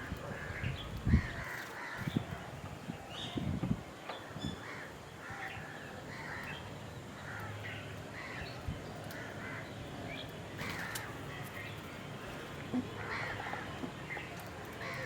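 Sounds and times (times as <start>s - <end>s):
birds calling: 0.0s - 15.0s
outdoor background noise: 0.0s - 15.0s.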